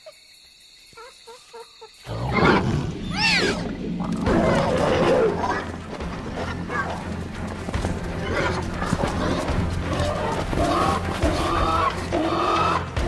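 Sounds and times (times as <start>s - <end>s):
low droning film score: 2.1s - 13.0s.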